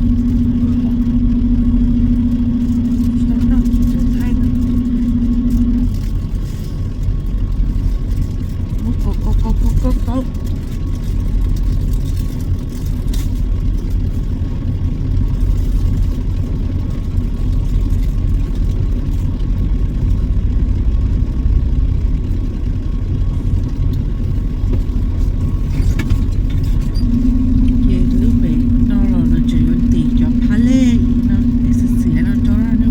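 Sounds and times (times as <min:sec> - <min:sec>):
truck engine rumble while driving: 0:00.0 - 0:32.9.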